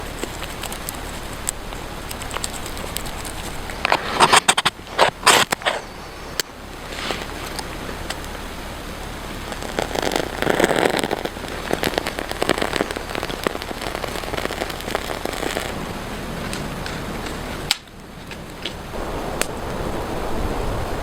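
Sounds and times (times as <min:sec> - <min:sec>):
crackling sizzle with pops: 0:00.0 - 0:21.0.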